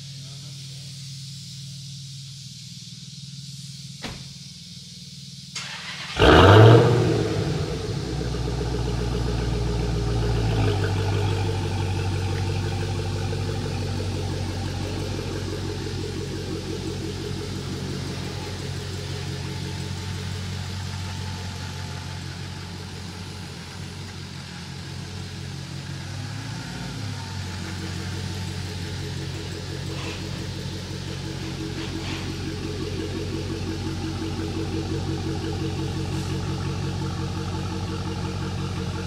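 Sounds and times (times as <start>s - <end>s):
car engine idling: 0.0s - 39.0s
car engine starting and revving: 5.6s - 39.0s.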